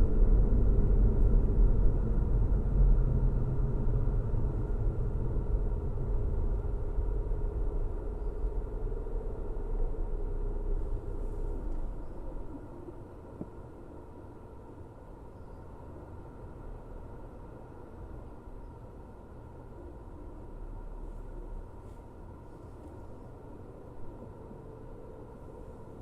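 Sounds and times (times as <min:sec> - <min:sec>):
car engine and tyres rumbling: 0:00.0 - 0:26.0.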